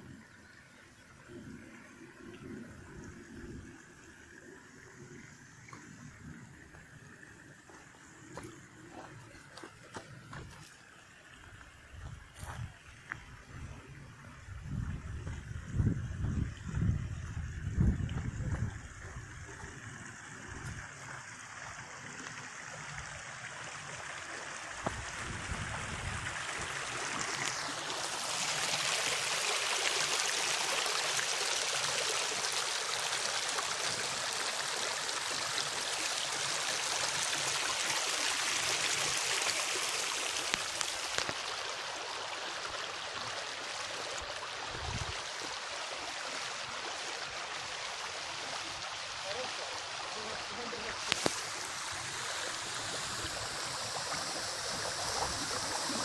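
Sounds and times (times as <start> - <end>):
stream water splashing over stones: 2.1 - 13.5, 14.6 - 56.0.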